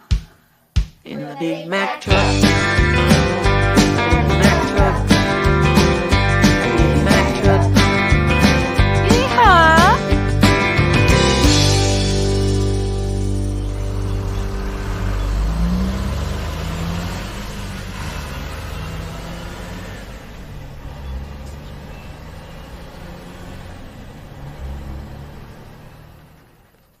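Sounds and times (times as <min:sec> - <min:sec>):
vehicle engine revving: 0:02.1 - 0:27.0.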